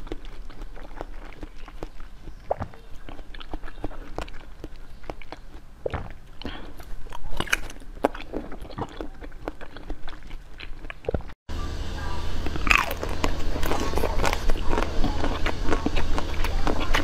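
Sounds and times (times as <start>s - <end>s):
close biting and chewing: 0.0s - 11.4s, 12.5s - 17.0s.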